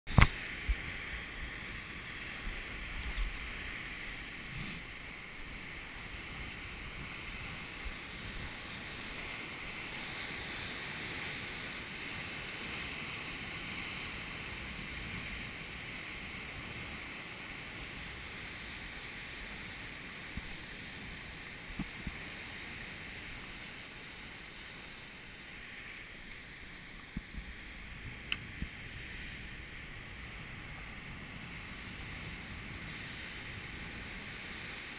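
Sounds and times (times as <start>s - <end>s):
surf breaking over rocks: 0.1s - 34.9s.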